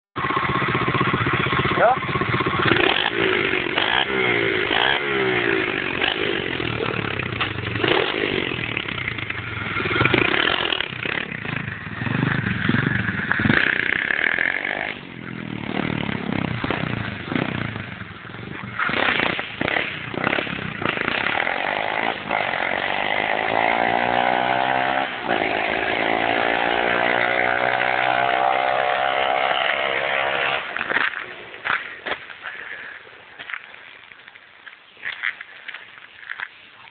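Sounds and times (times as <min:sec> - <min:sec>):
pit bike engine revving: 0:00.2 - 0:33.6.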